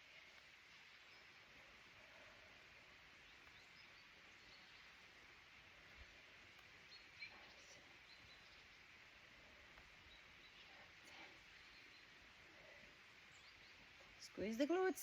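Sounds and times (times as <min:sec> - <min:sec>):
faint forest ambience: 0:00.0 - 0:15.0.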